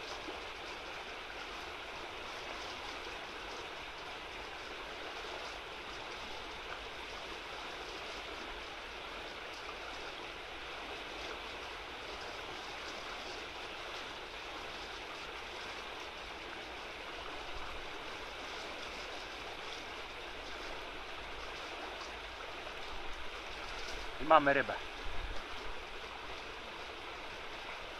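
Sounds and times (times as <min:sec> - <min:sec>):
river rushing over shallows: 0:00.0 - 0:27.9.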